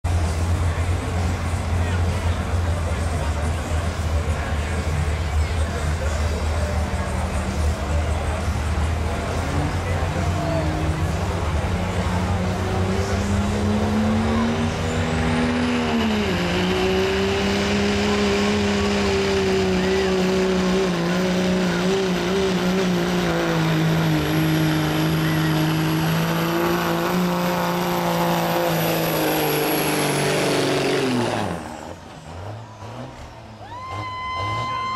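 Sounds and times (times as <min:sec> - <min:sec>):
diesel engine running hard: 0:00.0 - 0:34.9.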